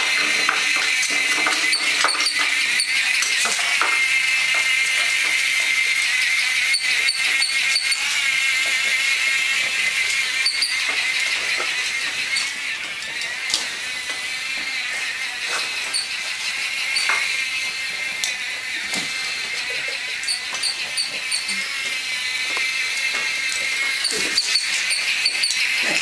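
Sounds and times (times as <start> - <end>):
small electric motor whine: 0.0 - 26.0.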